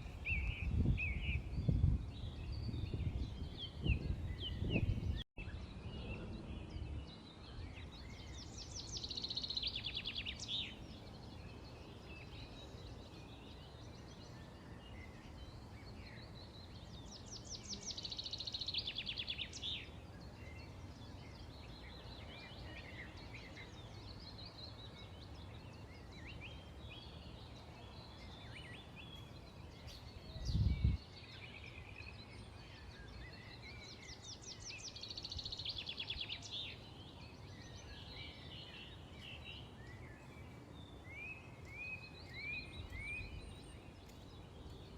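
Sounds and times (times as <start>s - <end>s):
songbirds chirping and singing: 0.0s - 44.9s.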